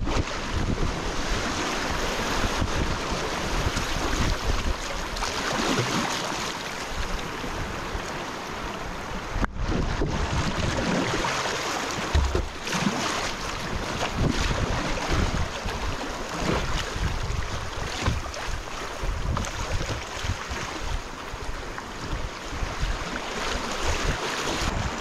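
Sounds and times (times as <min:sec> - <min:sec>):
wind buffeting microphone: 0:00.0 - 0:05.9, 0:06.9 - 0:11.4, 0:12.0 - 0:25.0.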